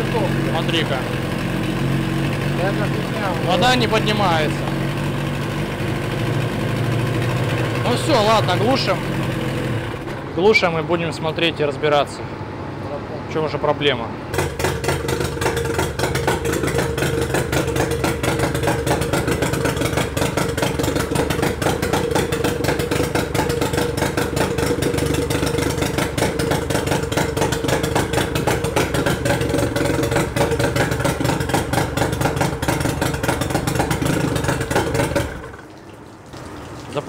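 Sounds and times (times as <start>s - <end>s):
outboard engine running: 0.0s - 11.4s, 14.3s - 37.0s.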